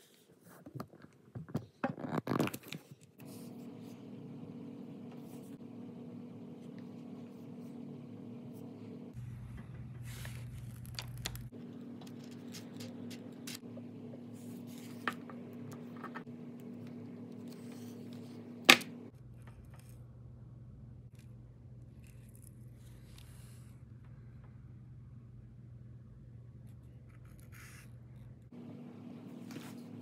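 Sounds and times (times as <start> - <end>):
steady low hum: 3.2 - 30.0.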